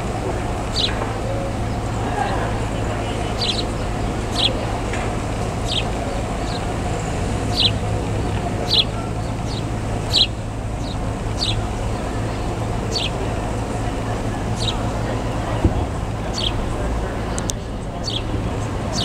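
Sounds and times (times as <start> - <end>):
low background rumble: 0.0 - 19.0
sparrows chirping: 0.0 - 19.0.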